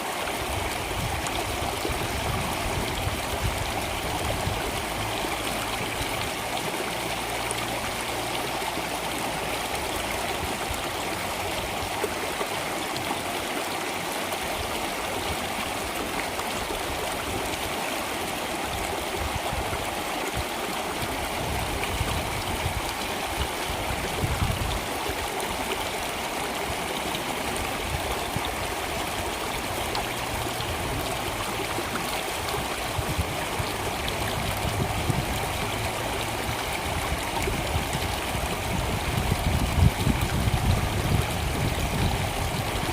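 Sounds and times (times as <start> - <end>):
water flowing steadily: 0.0 - 42.9.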